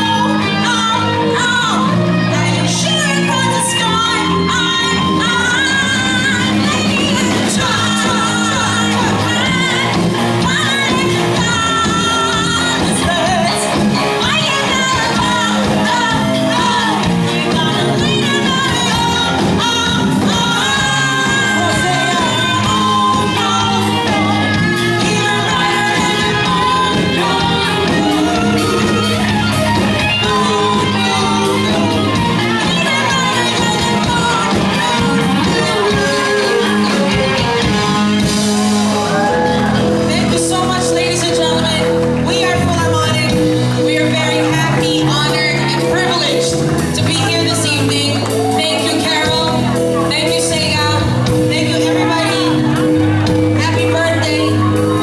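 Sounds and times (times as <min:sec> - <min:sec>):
electric guitar: 0:00.0 - 0:55.0
lead singer: 0:00.0 - 0:55.0
live pop-rock band: 0:00.0 - 0:55.0.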